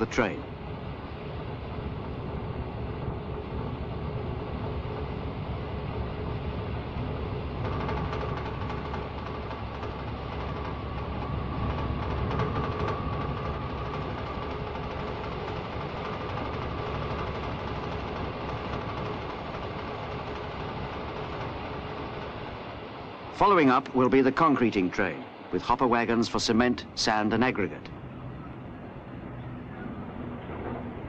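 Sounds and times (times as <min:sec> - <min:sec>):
diesel engine running: 0:00.0 - 0:31.0
faint steady whine: 0:00.0 - 0:31.0.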